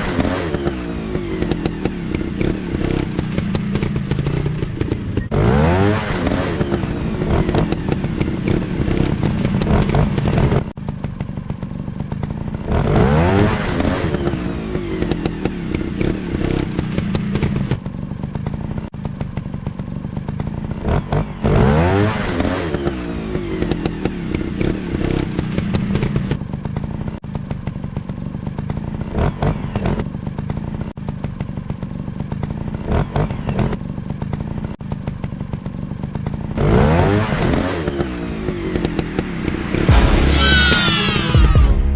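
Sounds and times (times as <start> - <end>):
motocross bike engines revving: 0.0 - 11.0, 12.0 - 18.8, 19.4 - 41.9.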